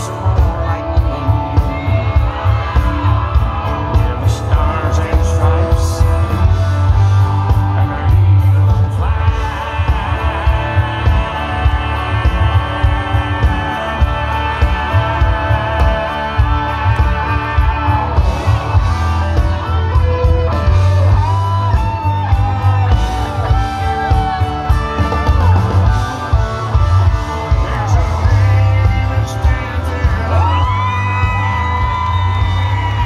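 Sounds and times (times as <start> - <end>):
heavy drum beat: 0.0 - 33.0
live country band playing: 0.0 - 33.0
man singing: 0.0 - 33.0.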